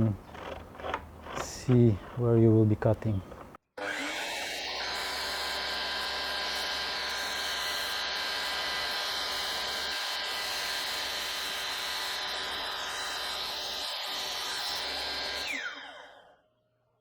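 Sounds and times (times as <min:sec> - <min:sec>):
miter saw motor whining: 0:00.2 - 0:02.3, 0:03.2 - 0:16.5
saw blade cutting aluminium: 0:00.2 - 0:02.6, 0:03.2 - 0:16.3.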